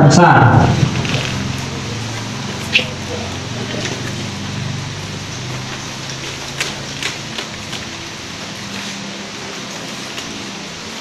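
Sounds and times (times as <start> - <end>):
room noise hiss: 0.0 - 11.0
paper rustling and crinkling: 0.8 - 2.9, 3.5 - 11.0.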